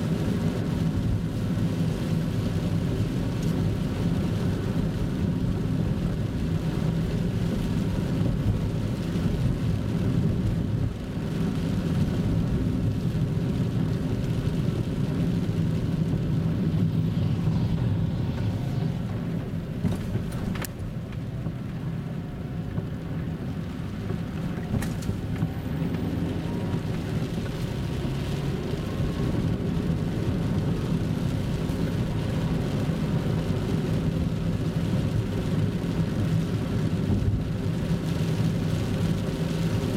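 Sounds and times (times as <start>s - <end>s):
car engine and tyres on wet road: 0.0s - 39.9s.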